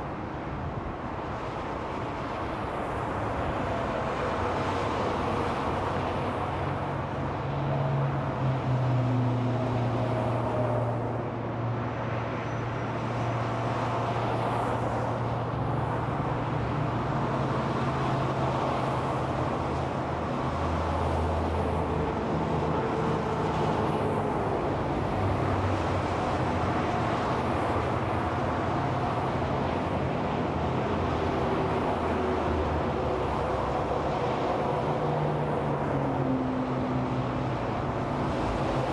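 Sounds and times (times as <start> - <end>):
freeway traffic: 0.0 - 38.9.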